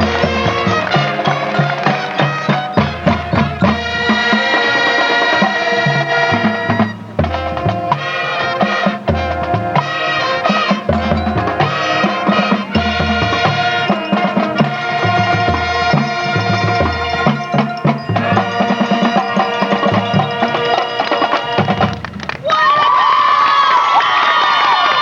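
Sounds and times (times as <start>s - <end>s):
brass sustained chords: 0.0s - 22.0s
drumline beat: 0.0s - 22.6s.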